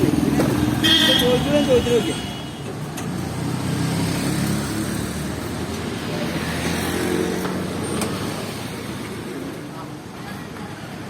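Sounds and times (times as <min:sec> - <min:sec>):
vehicle engine rumbling: 0:00.0 - 0:09.3
road traffic passing: 0:00.0 - 0:11.0.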